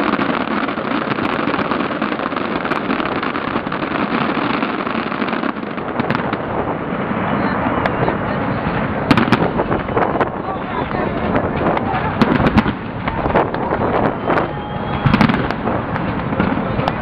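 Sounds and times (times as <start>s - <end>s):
fireworks crackling: 0.0s - 17.0s
sharp firework bangs: 0.0s - 17.0s.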